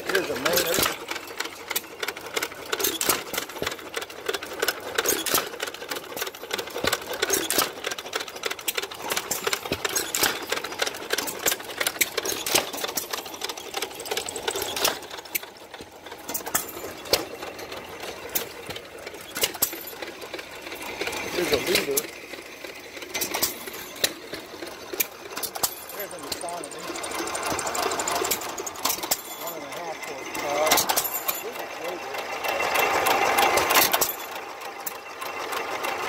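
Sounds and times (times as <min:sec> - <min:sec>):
small gas engines clattering: 0:00.0 - 0:36.0.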